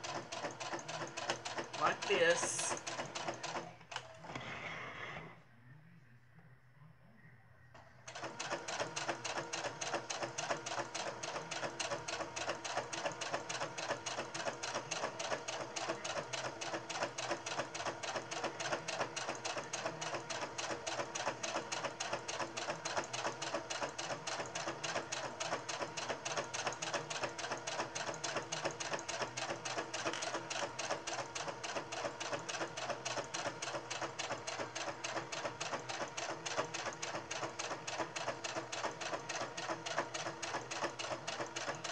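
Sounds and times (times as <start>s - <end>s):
sewing machine needle clattering: 0.0s - 4.1s, 8.1s - 41.9s.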